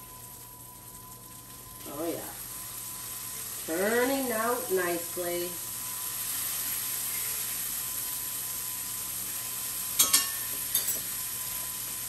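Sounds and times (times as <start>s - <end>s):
bacon sizzling in a pan: 0.0s - 12.0s.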